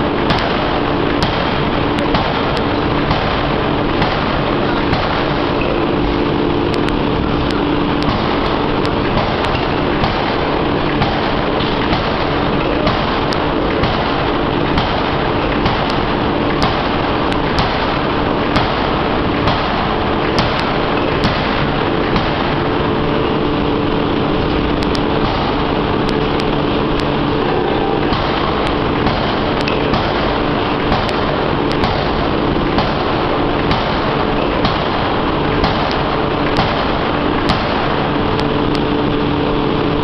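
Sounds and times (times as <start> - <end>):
forging hammer blows: 0.0 - 39.8
forging machine running: 0.0 - 40.0.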